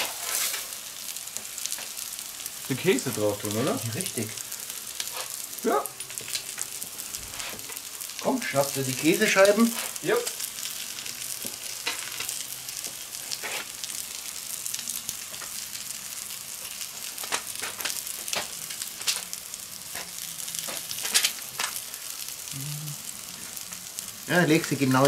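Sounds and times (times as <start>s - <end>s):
patties sizzling on griddle: 0.0s - 25.0s.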